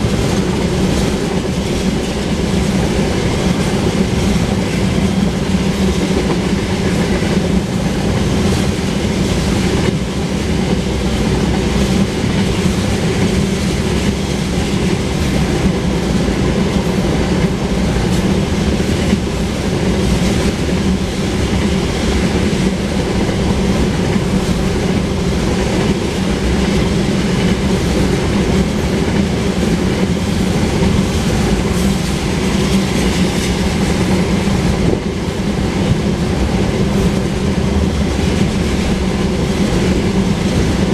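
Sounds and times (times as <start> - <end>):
train wheels clickety-clack on rails: 0.0 - 40.9.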